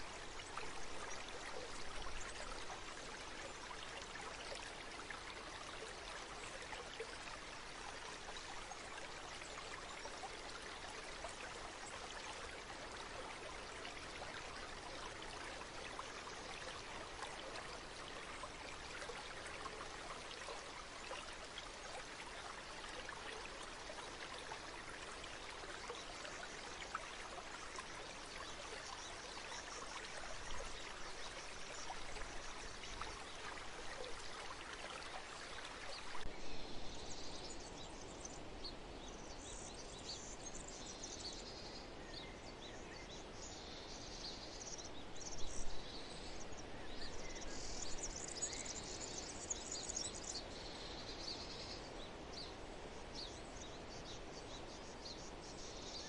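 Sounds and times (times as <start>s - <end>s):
flowing stream: 0.0s - 56.0s.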